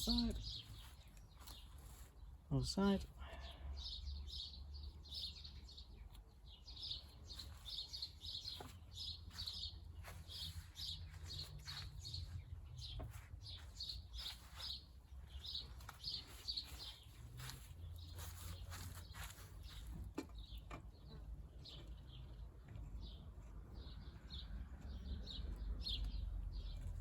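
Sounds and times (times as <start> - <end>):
small bird chirping: 0.0 - 27.0.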